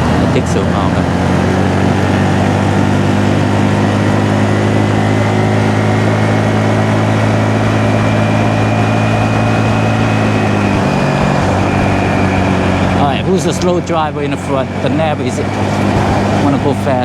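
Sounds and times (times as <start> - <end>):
small motorcycle engine cruising: 0.0 - 17.0
wind and road noise: 0.0 - 17.0.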